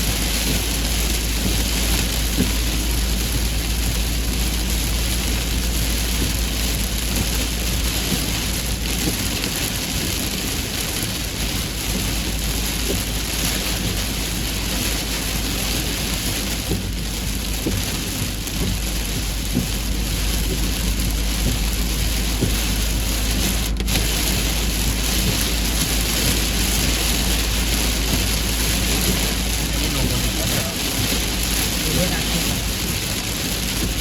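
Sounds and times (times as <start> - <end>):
deep rumble: 0.0 - 34.0
heavy rain hissing: 0.0 - 34.0.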